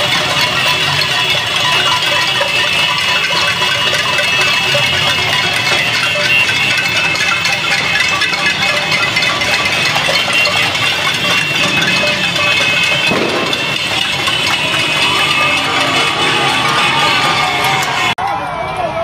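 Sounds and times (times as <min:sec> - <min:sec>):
small motorcycle engines running: 0:00.0 - 0:18.1
street crowd din: 0:00.0 - 0:19.0.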